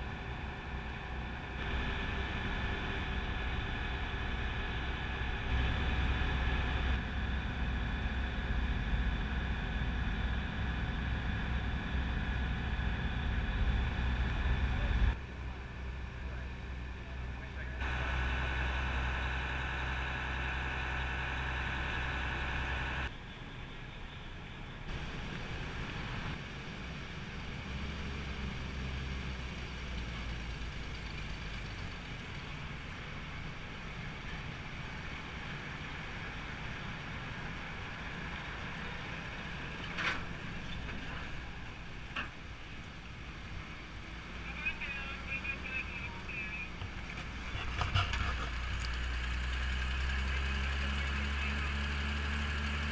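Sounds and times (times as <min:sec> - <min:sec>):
car engine and tyre noise: 0:00.0 - 0:52.9
ferry engines droning: 0:00.0 - 0:52.9.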